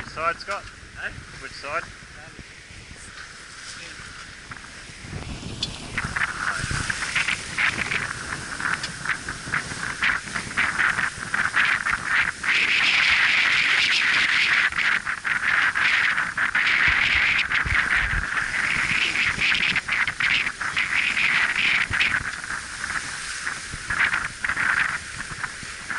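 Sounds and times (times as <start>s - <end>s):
sea water rushing along hull: 0.0s - 25.9s
wind buffets on microphone: 0.0s - 25.9s.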